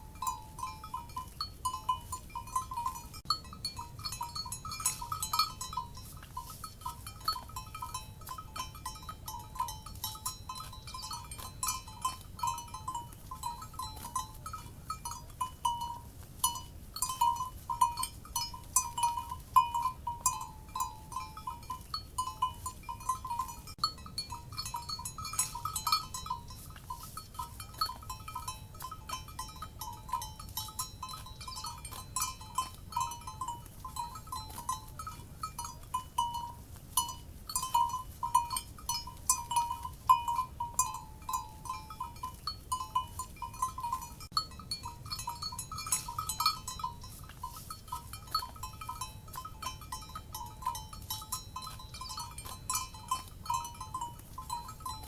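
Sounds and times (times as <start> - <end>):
cowbells clanking: 0.0 - 55.0.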